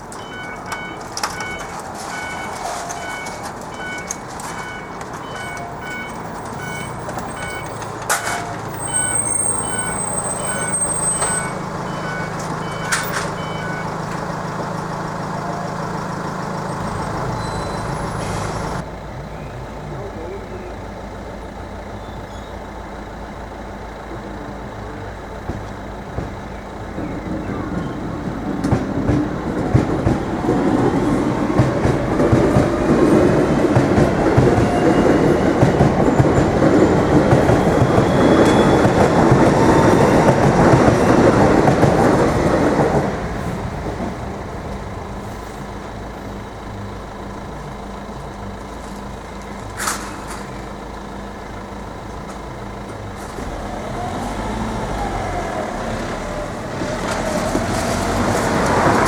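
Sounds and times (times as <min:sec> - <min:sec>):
train wheels clacking over rails: 0:00.0 - 0:18.9, 0:22.6 - 0:59.0
electric train passing: 0:00.0 - 0:59.0.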